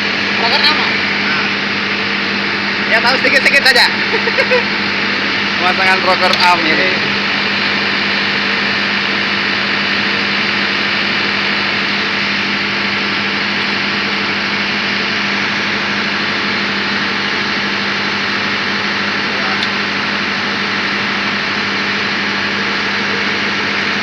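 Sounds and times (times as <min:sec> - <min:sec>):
engine room machinery drone: 0:00.0 - 0:24.0.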